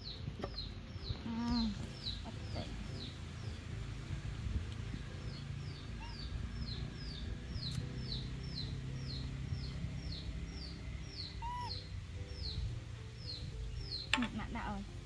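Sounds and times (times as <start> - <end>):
bird chirping: 0.0 - 3.9, 4.8 - 14.9.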